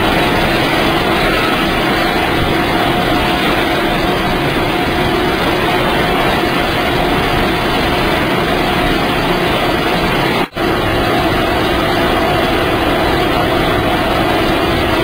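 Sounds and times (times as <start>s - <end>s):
drying machinery running: 0.0s - 15.0s.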